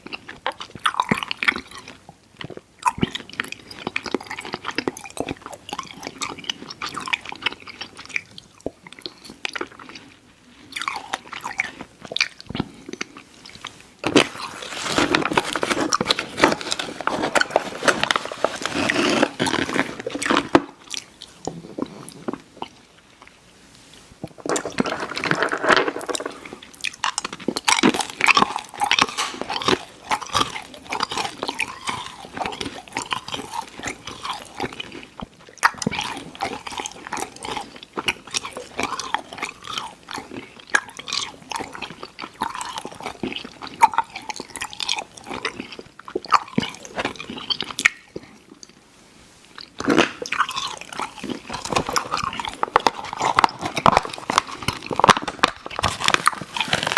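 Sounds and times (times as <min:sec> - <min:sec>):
mouth chewing candy: 0:00.0 - 0:23.4, 0:24.2 - 0:48.8, 0:49.4 - 0:56.9.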